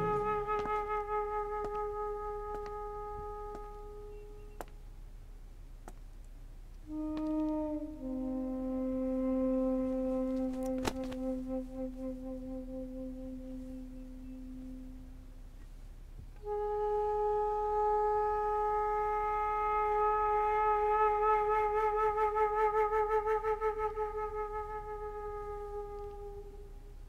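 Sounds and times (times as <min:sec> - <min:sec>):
woodwind sustained note with vibrato: 0:00.0 - 0:04.7, 0:06.8 - 0:15.5, 0:16.4 - 0:27.0
low held wind note: 0:00.0 - 0:05.4, 0:06.8 - 0:27.0.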